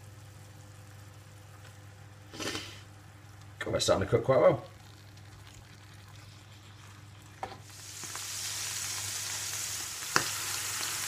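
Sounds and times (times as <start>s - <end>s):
sausages sizzling in pan: 0.0s - 3.6s, 4.7s - 11.0s.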